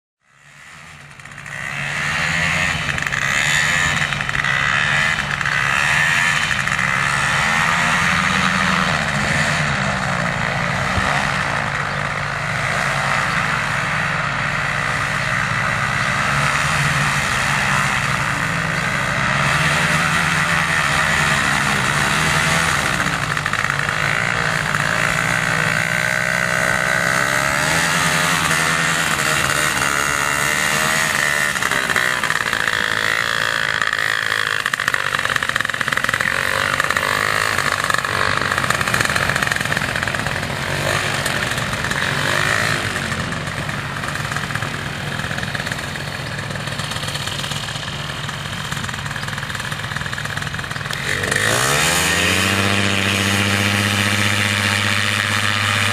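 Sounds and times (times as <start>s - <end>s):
small engine running: 0.2s - 55.9s.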